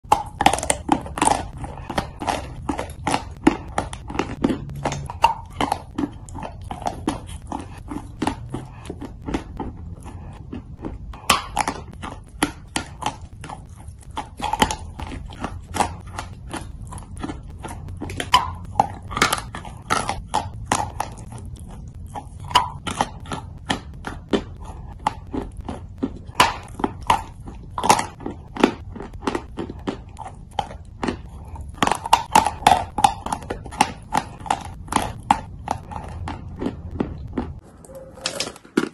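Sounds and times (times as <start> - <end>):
chalk being chewed crunching: 0.1 - 38.9.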